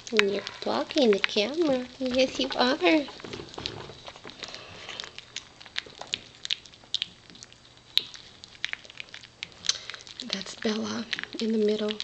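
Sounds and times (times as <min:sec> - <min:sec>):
puppies lapping wet food: 0:00.0 - 0:12.0.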